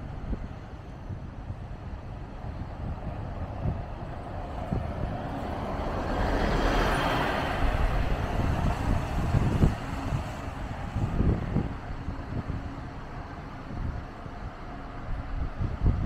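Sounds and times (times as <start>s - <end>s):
bus driving past: 0.0s - 16.0s.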